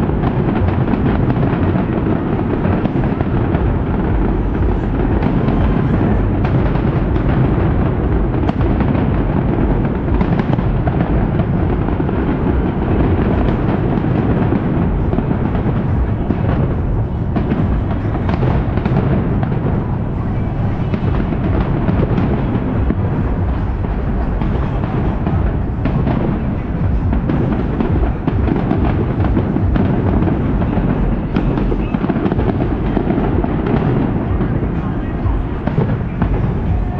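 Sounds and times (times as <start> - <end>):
firework booms: 0.0 - 36.9
music playing: 0.0 - 36.9
sharp firework cracks: 0.0 - 36.9.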